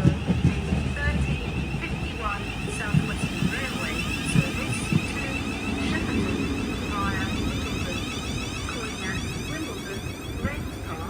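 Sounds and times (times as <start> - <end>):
high whine: 0.0 - 11.0
train rumble: 0.0 - 11.0.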